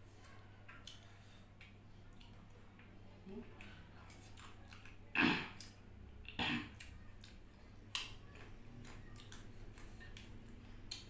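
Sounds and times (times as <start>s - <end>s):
chewing and crunching: 0.2s - 11.0s.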